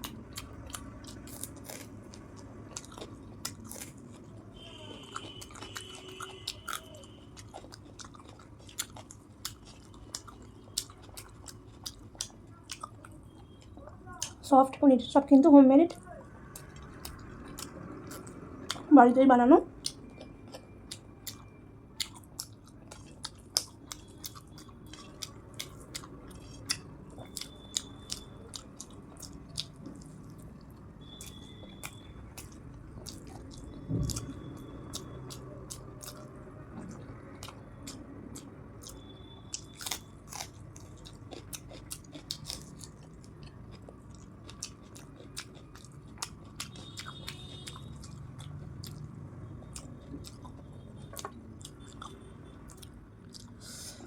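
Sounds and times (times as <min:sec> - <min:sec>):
close chewing and biting: 0:00.0 - 0:14.5, 0:15.9 - 0:18.9, 0:19.8 - 0:54.0.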